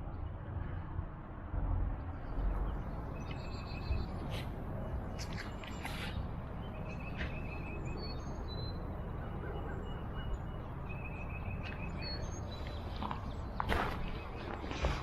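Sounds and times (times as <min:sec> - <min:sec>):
small birds chirping: 0:02.2 - 0:15.0.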